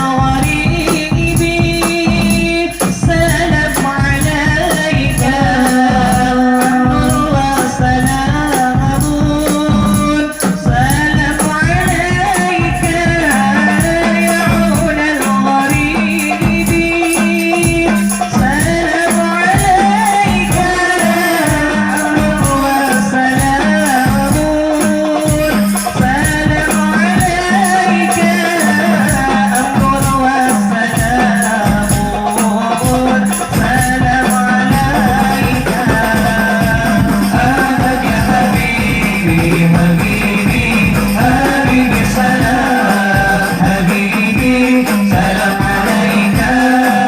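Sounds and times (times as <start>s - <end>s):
hand-struck frame drums: 0.0s - 47.0s
person singing melody: 0.0s - 47.0s.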